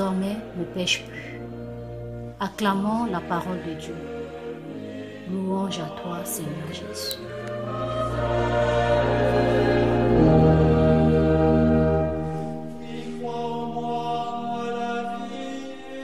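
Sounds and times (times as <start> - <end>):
sacred choral music: 0.0 - 16.0.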